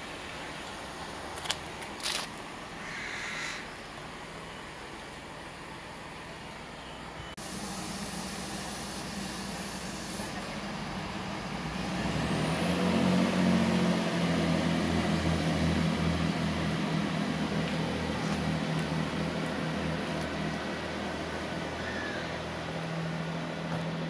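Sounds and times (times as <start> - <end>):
train diesel engine drone: 0.0 - 24.0.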